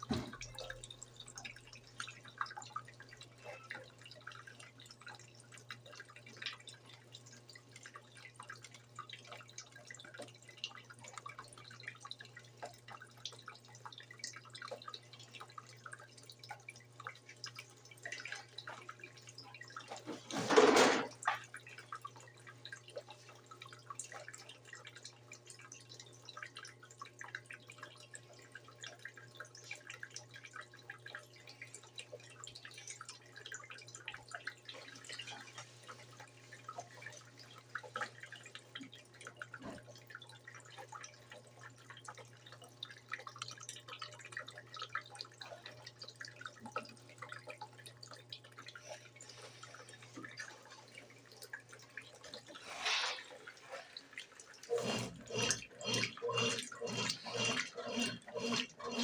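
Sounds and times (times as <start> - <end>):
washing machine hum: 0.0 - 59.0
water dripping and trickling: 0.0 - 59.0.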